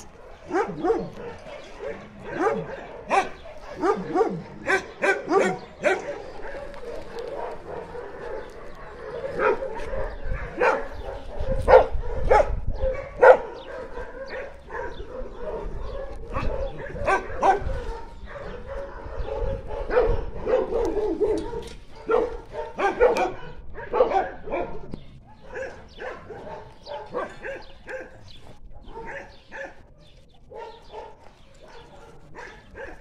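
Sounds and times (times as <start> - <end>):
dogs barking: 0.0 - 33.0.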